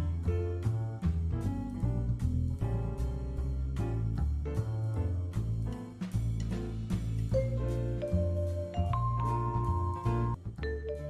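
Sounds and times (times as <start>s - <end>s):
bass line: 0.0s - 11.0s.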